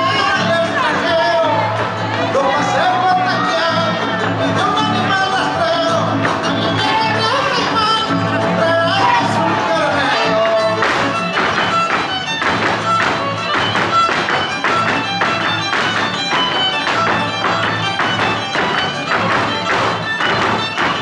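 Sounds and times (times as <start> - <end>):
string trio playing folk music: 0.0 - 21.0
dancers stamping on stage floor: 1.6 - 21.0.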